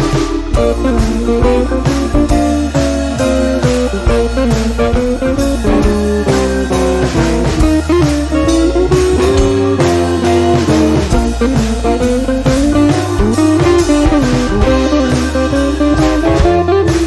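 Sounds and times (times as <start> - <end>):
blues-rock music: 0.0 - 17.0.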